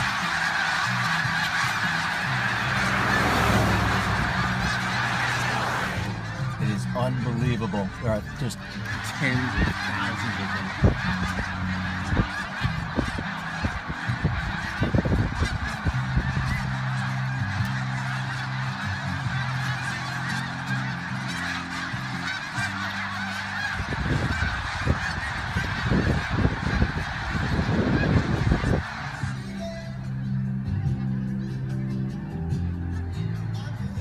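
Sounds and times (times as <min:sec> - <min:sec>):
flock of geese honking: 0:00.0 - 0:34.0.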